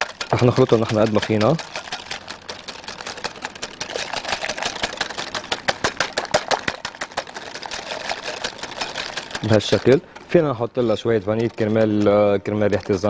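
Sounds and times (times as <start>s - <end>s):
whisk clicking against glass bowl: 0.0s - 13.0s.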